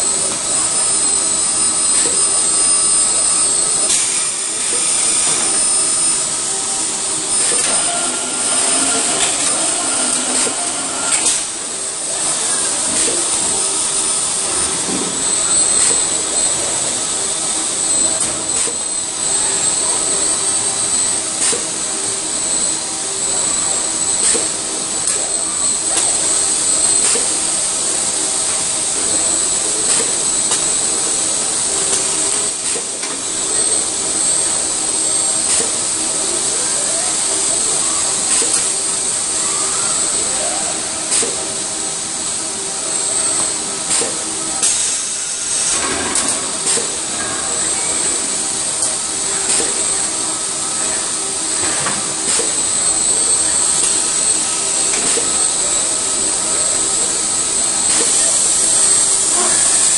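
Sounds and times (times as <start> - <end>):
industrial robots hissing and humming: 0.0 - 59.9.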